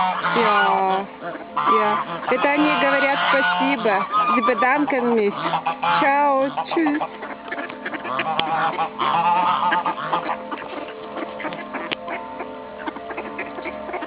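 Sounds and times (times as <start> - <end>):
waterfowl honking: 0.0 - 14.0.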